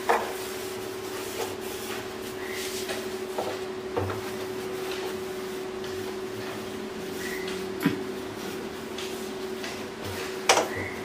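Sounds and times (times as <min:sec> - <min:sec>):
cloth rubbing on stove: 0:00.0 - 0:10.4
steady hum: 0:00.0 - 0:11.0.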